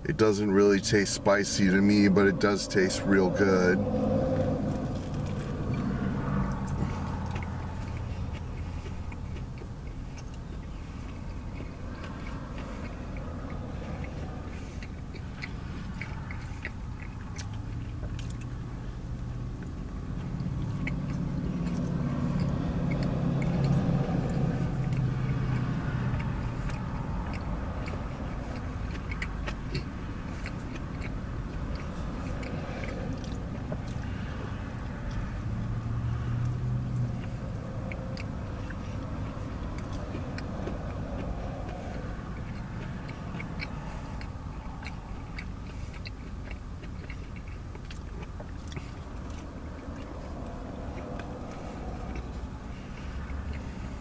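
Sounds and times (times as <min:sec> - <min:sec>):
low vehicle rumble: 0:00.0 - 0:54.0
man chewing: 0:00.4 - 0:54.0.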